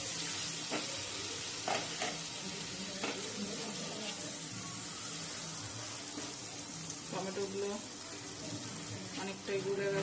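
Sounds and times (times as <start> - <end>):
masala sizzling in a pan: 0.0 - 10.0.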